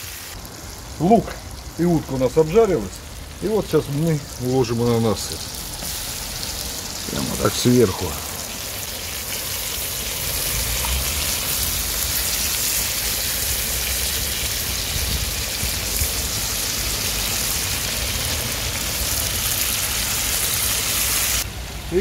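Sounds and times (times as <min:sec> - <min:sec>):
food sizzling in hot oil: 0:00.0 - 0:21.5.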